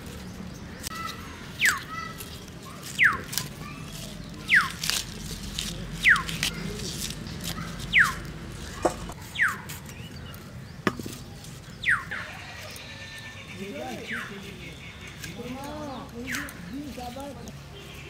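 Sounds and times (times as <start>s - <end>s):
leafy stems being cut: 0.0s - 18.0s.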